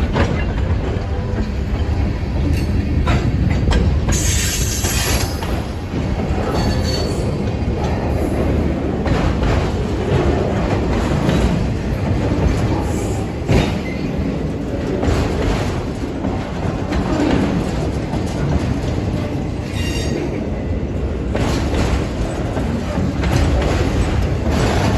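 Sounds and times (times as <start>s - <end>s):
freight train wheels rumbling on rail: 0.0s - 24.9s.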